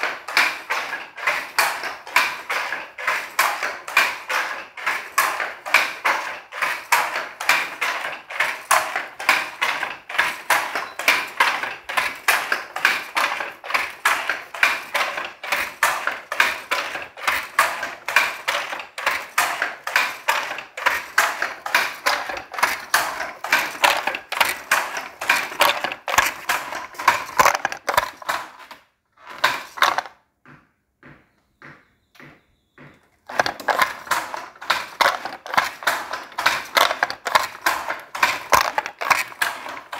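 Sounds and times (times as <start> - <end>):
wooden handloom clacking: 0.0 - 39.9.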